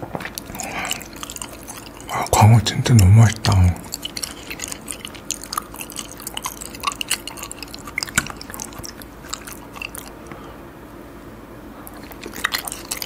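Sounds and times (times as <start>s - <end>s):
wet chewing clicks and squishes: 0.0s - 10.2s, 11.8s - 13.0s.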